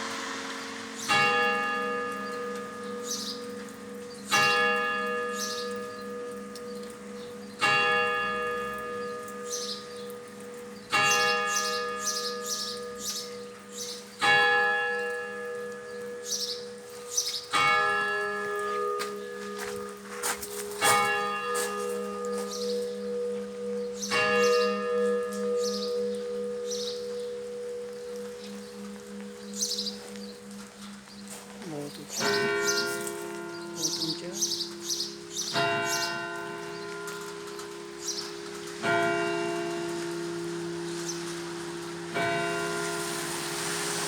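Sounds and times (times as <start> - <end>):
church bells tolling: 0.0 - 44.0.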